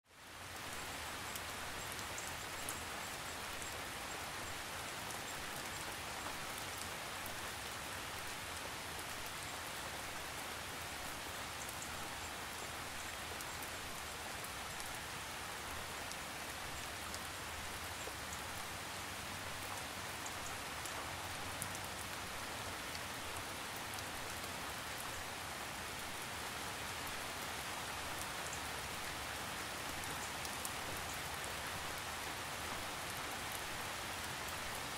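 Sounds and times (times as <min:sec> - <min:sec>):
light rain hissing: 0:00.1 - 0:34.9.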